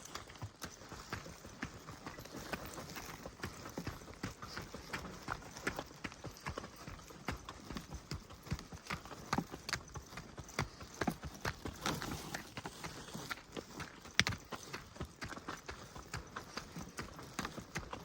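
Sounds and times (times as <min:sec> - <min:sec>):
footsteps on forest track: 0:00.0 - 0:18.0.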